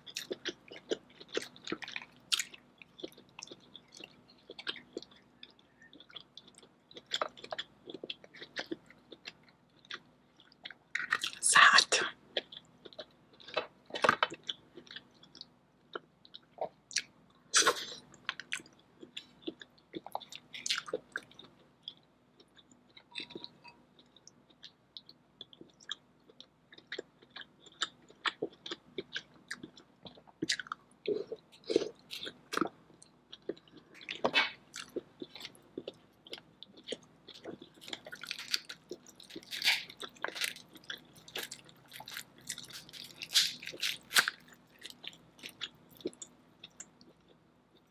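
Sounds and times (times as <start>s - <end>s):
person chewing and biting: 0.0s - 11.4s, 12.4s - 47.3s.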